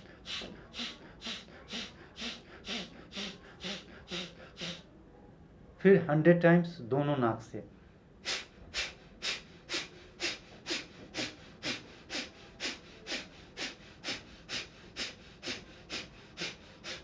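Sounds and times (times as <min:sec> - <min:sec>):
forceful breath exhalations through nose: 0:00.0 - 0:04.9, 0:08.2 - 0:17.0.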